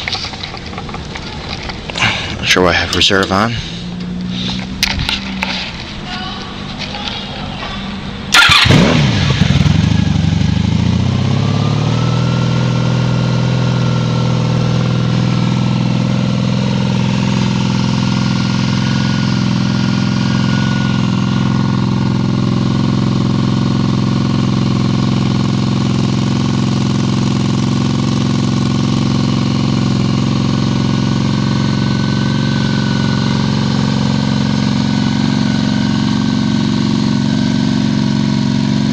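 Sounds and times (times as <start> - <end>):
motorcycle engine starting and idling: 0.0 - 6.0, 6.7 - 38.9.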